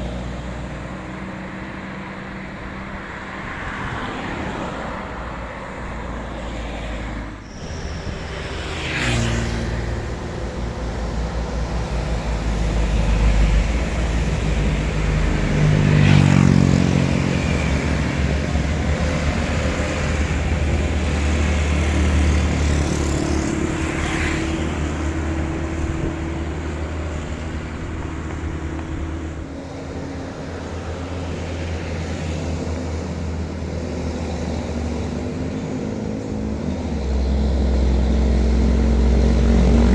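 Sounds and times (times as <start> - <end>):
diesel truck engine labouring: 4.8 - 39.9.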